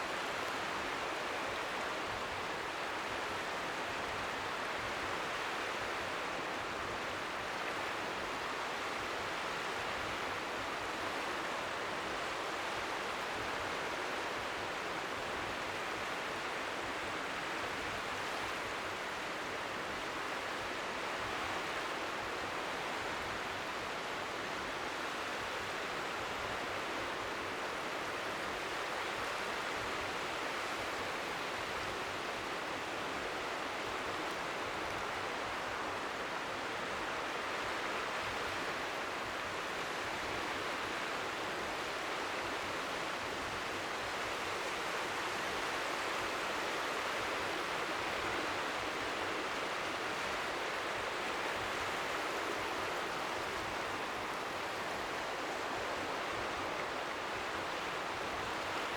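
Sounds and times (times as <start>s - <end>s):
waves lapping faintly: 0.0s - 58.9s.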